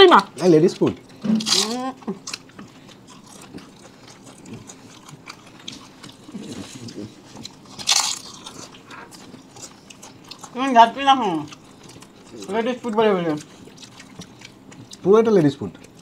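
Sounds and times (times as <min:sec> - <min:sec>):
people chewing crisp food: 0:00.1 - 0:16.0.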